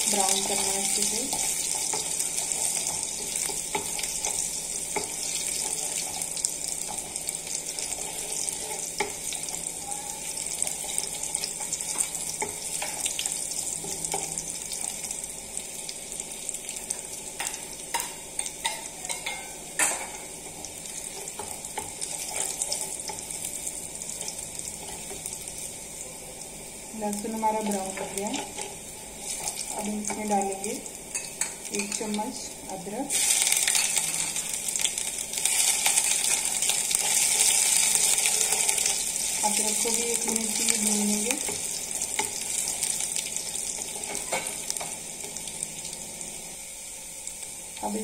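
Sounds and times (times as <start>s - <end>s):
garlic sizzling in oil: 0.0s - 48.0s.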